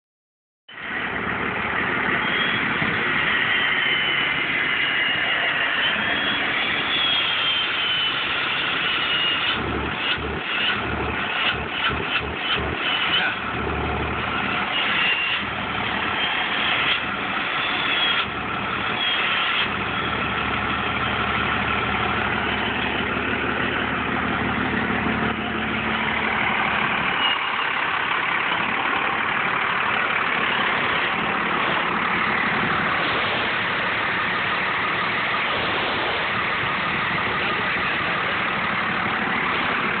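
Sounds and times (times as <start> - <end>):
diesel engine running: 0.7 - 40.0
turbocharger whistle: 2.0 - 40.0.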